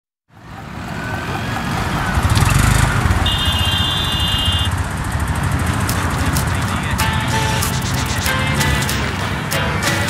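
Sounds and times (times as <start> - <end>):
vehicle engine rumbling: 0.3 - 10.0.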